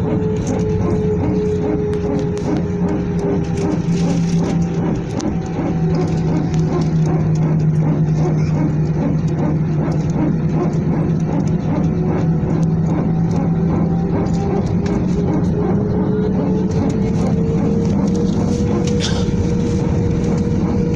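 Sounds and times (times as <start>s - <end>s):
airliner engine drone: 0.0s - 20.9s
low hum: 0.0s - 20.9s.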